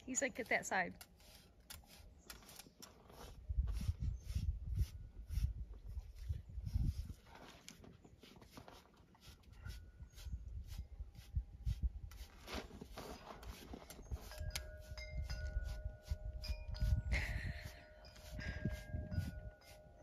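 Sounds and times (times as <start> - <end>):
grooming tool scratching fur: 0.0 - 5.6, 8.2 - 20.0.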